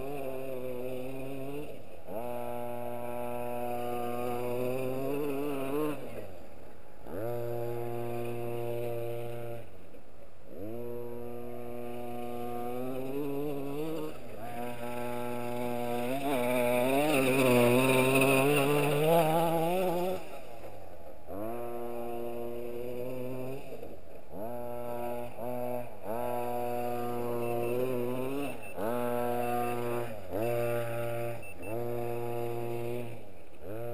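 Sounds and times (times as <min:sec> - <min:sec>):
rc truck engine revving: 0:00.0 - 0:33.9.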